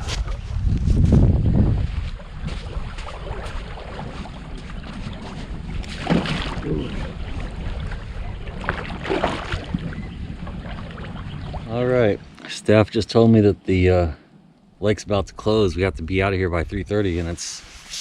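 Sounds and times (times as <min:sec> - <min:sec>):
wind rumbling on microphone: 0:00.0 - 0:12.4, 0:14.7 - 0:18.0.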